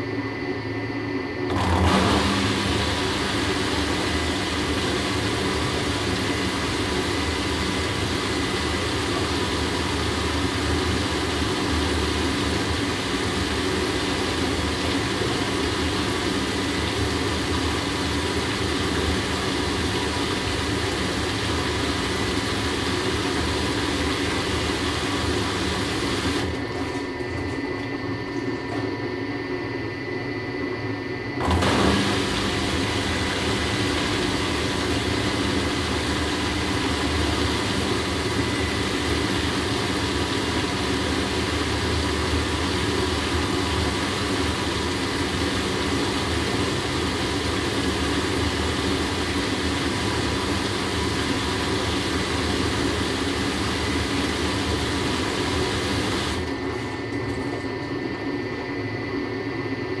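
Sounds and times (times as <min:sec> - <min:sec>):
washing machine running: 0:00.0 - 1:00.0.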